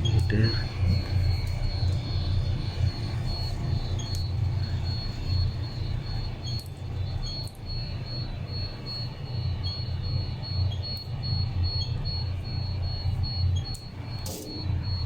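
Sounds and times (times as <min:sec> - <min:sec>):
alarm panel beeping: 0:00.0 - 0:15.0.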